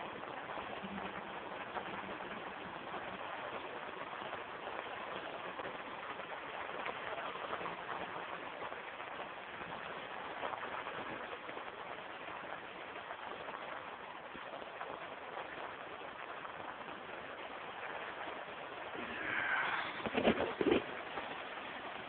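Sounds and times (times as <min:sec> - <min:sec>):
rain pattering on a roof: 0:00.0 - 0:22.0.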